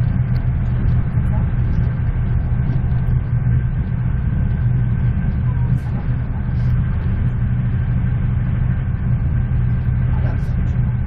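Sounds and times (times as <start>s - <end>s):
thin steady whine: 0.0s - 11.0s
train coach rumble: 0.0s - 11.0s.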